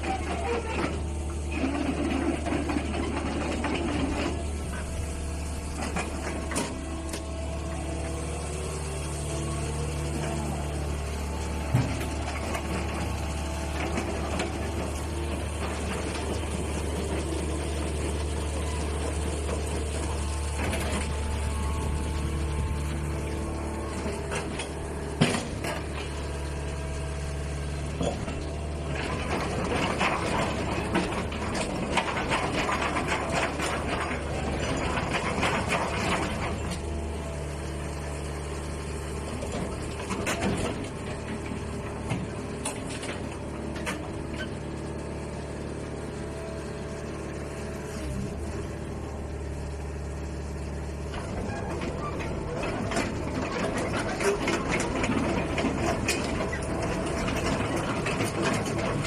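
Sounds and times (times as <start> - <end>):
excavator diesel engine running: 0.0 - 59.0
hydraulics working: 0.0 - 59.0.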